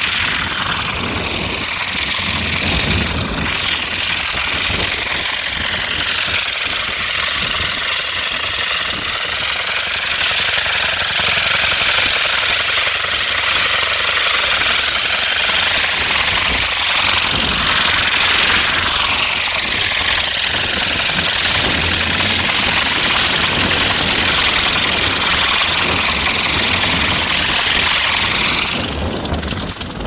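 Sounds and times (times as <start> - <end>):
rocket engine rushing hiss: 0.0 - 30.0
spinning rotor beat: 0.0 - 30.0.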